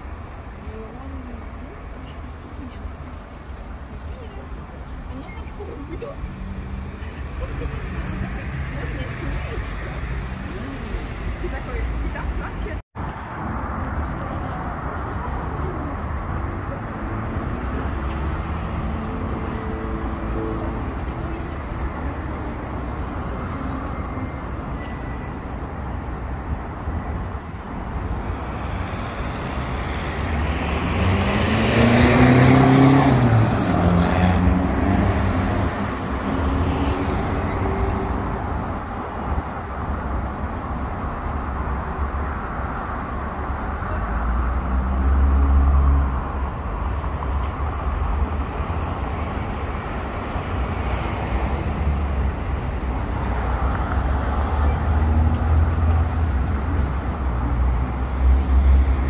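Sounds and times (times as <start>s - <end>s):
road traffic: 0.0s - 59.0s.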